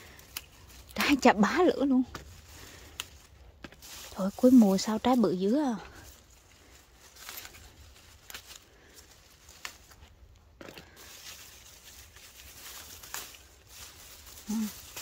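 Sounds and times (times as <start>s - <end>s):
leaves and vines rustling: 0.0s - 15.0s.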